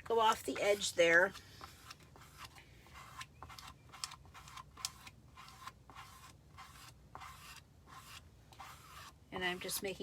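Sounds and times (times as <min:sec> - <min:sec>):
squeegee scraping a stencil: 0:00.0 - 0:10.0.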